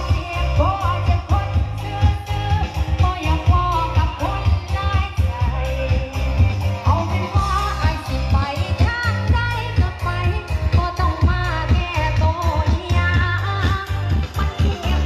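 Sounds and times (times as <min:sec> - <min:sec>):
pop backing track with bass beat: 0:00.0 - 0:15.0
woman singing into a microphone: 0:00.0 - 0:15.0.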